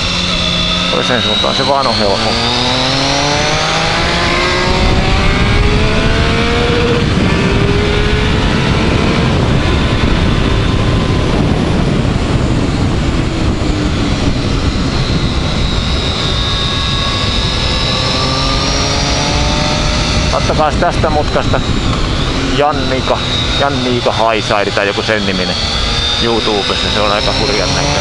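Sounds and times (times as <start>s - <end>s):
loud wind noise: 0.0s - 28.0s
motorcycle engine revving: 0.0s - 28.0s.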